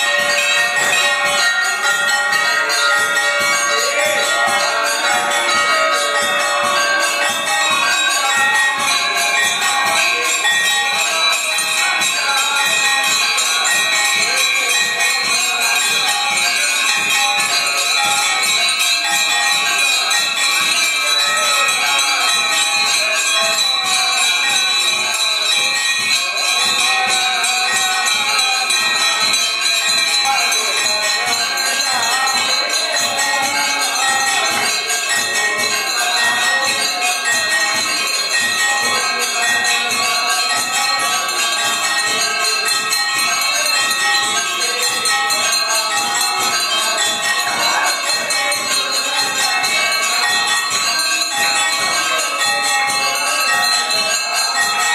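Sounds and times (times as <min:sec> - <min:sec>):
brass bells ringing: 0:00.0 - 0:54.9.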